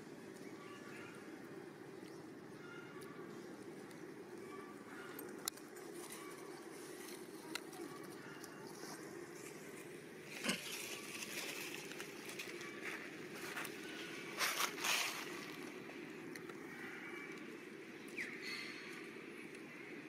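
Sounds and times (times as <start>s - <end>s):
outdoor background hum: 0.0s - 20.0s.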